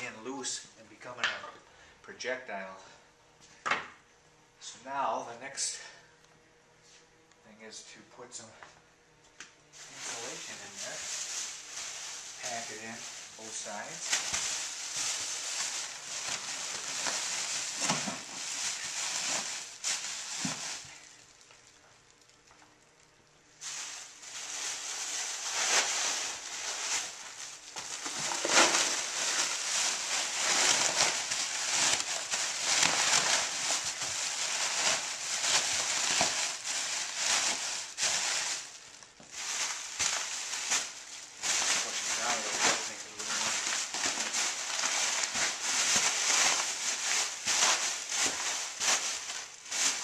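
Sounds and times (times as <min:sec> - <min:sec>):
plastic bags crinkling: 0:09.8 - 0:50.0.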